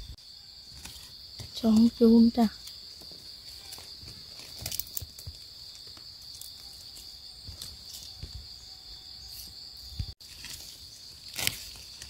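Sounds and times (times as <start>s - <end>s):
forest insects droning: 0.0s - 12.0s
rustles in undergrowth: 0.5s - 12.0s.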